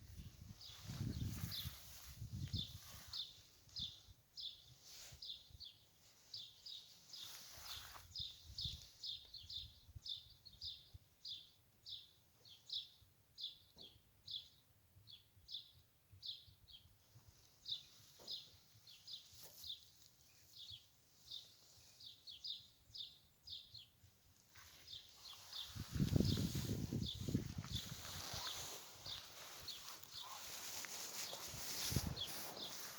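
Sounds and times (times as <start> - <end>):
small songbird chirping: 0.0 - 32.9.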